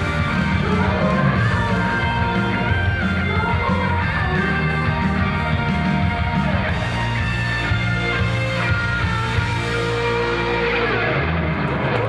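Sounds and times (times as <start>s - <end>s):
electric guitar: 0.0s - 12.0s
live pop song: 0.0s - 12.0s
steady bass line: 0.0s - 12.0s.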